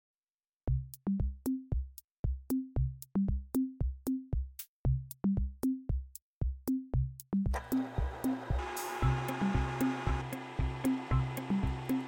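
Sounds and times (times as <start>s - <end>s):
drum machine beat with bass: 0.7s - 12.0s.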